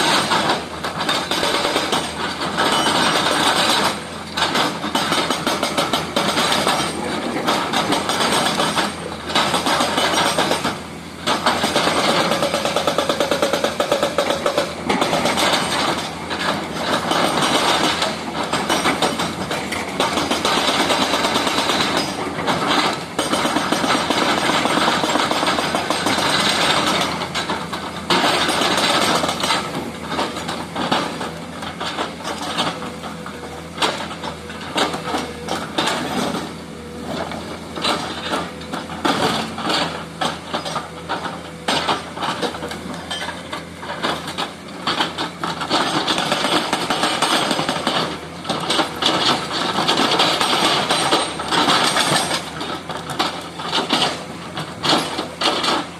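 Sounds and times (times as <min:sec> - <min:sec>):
hydraulic breaker hammering: 0:00.0 - 0:55.9.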